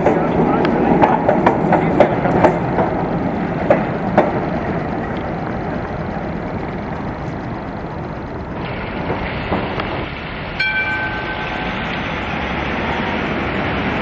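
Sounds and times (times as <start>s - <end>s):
tram running noise: 0.0s - 14.0s
tram wheels clicking over rail joints: 0.0s - 14.0s.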